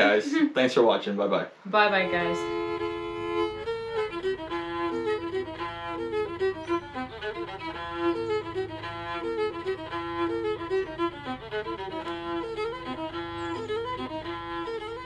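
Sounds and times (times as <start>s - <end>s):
low steady hum: 1.8s - 14.9s
fiddle tune: 1.8s - 15.0s.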